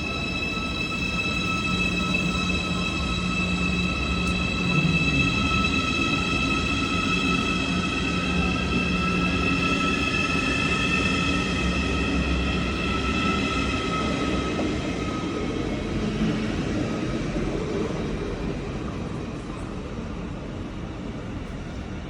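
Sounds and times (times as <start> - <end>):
train whining and rumbling: 0.0 - 22.0.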